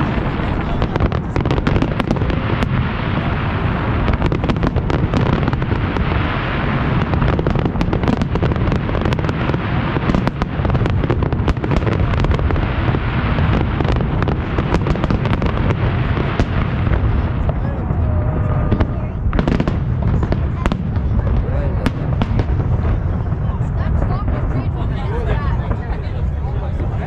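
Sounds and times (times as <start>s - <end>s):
firework bangs and crackles: 0.0s - 27.0s
low rumble of explosions: 0.0s - 27.0s.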